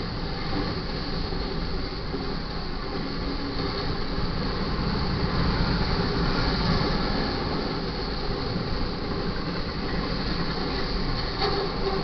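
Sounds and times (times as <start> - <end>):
freight train wheels on rail: 0.0 - 12.0.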